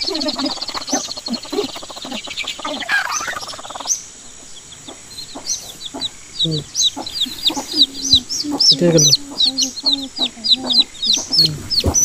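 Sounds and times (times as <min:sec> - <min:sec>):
baby chicks peeping: 0:00.0 - 0:12.0
low-pitched cluck: 0:00.0 - 0:12.0.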